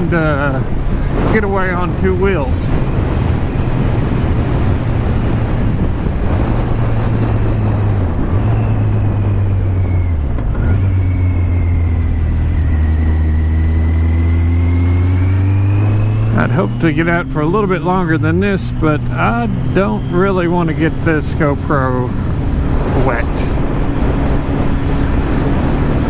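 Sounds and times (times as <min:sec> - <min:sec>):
motorcycle engine running: 0:00.0 - 0:26.0
wind rush: 0:00.0 - 0:26.0.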